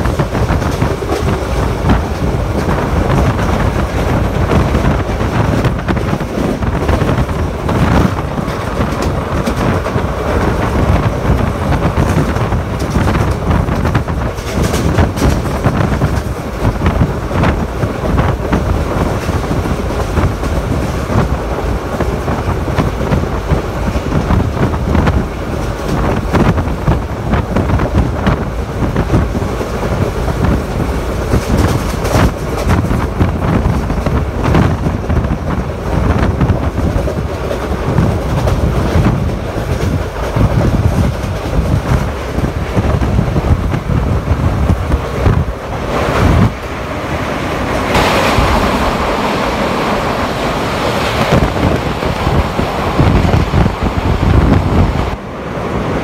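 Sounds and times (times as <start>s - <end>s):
clacks over track joints: 0.0s - 46.8s
train wheels rumbling on rails: 0.0s - 56.0s.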